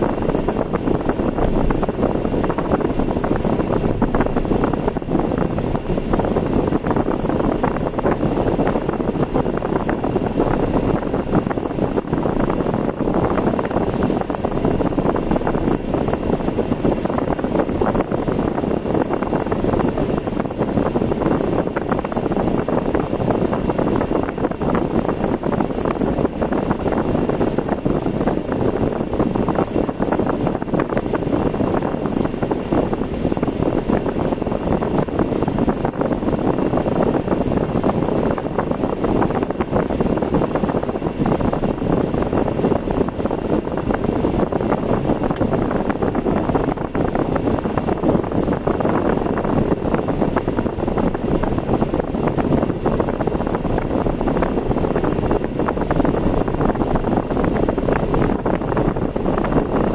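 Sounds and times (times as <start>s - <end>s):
car road and engine noise: 0.0s - 59.9s
wind buffeting microphone: 0.0s - 59.9s.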